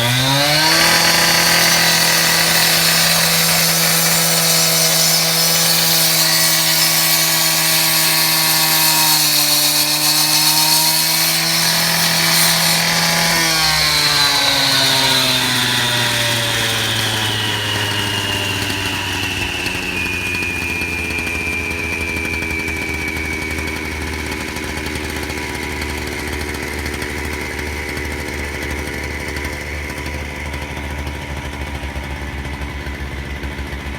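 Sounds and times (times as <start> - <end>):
saw blade whine spinning down: 0.0 - 33.9
wet saw engine running: 0.0 - 33.9.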